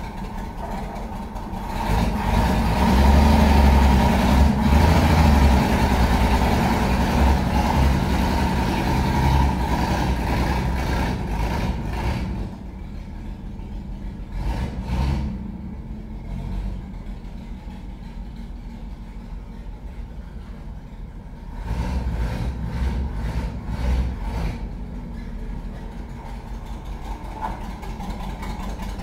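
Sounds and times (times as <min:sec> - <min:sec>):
pickup truck engine pulling away: 0:00.0 - 0:29.0.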